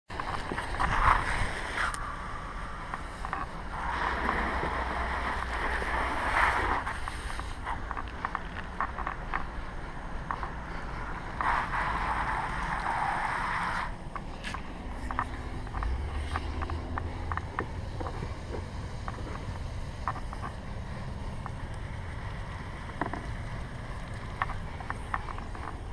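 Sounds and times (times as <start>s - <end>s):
wind rumble on microphone: 0.1s - 25.9s.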